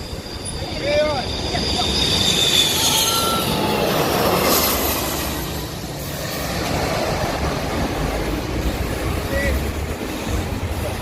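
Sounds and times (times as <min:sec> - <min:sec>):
jet engine noise: 0:00.0 - 0:11.0.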